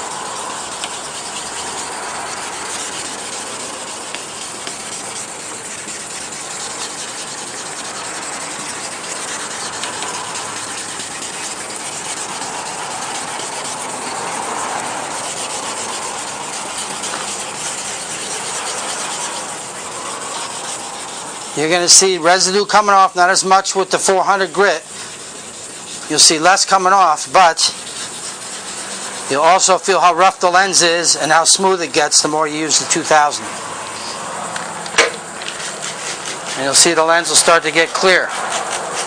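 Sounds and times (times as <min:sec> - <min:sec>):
wet sandpaper rubbing plastic: 0:00.0 - 0:39.0.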